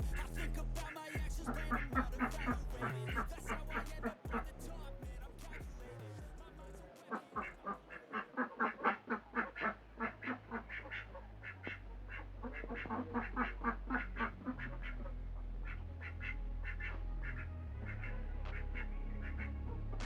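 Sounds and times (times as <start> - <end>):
duck quacking: 0.0 - 4.5, 7.1 - 19.4.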